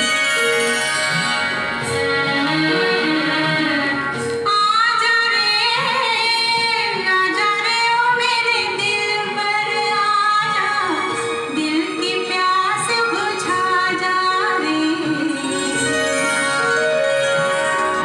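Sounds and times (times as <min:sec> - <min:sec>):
woman singing with instruments: 0:02.1 - 0:16.9.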